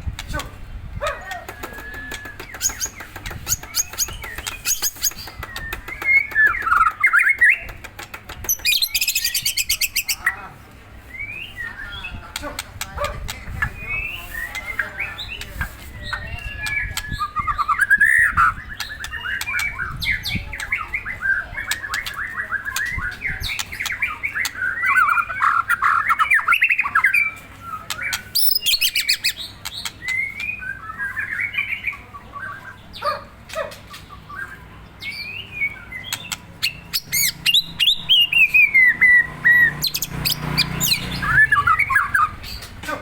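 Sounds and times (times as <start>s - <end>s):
songbird singing varied song: 0.0s - 10.4s, 11.0s - 42.9s.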